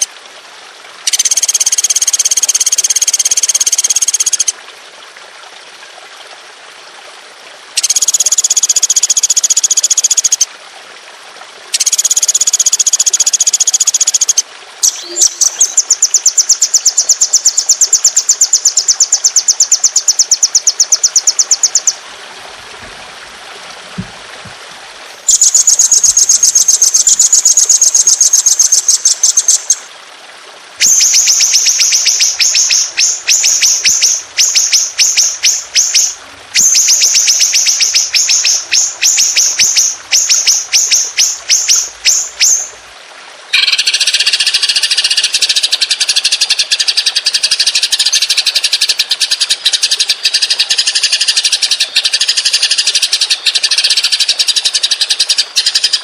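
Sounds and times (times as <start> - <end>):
songbird trilling: 1.1 - 4.5, 7.8 - 10.5, 11.8 - 22.0, 25.3 - 29.9, 30.8 - 42.7, 43.5 - 56.0.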